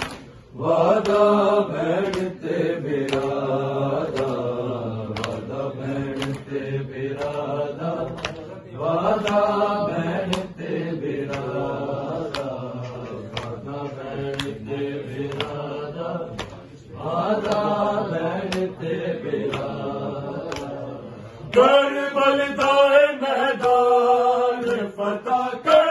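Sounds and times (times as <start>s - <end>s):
men chanting together: 0.0s - 25.9s.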